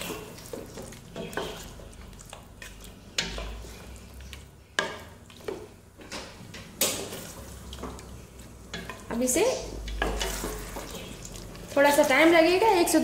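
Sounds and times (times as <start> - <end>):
spatula scraping and knocking pot: 0.0 - 12.0
low sizzle: 0.0 - 13.0.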